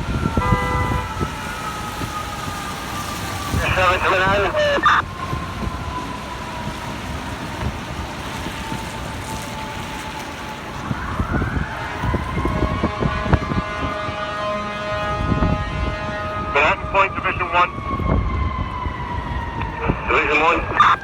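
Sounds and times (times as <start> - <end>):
city traffic rumble: 0.0 - 21.0
fire engine mechanical siren wailing: 0.0 - 21.0.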